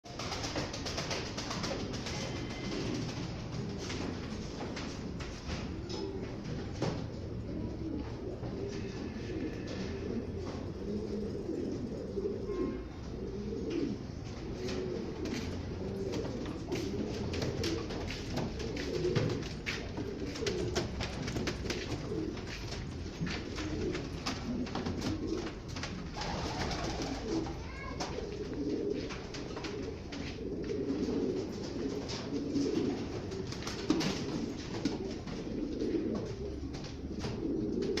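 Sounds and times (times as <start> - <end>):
pigeons cooing: 0.1 - 38.0.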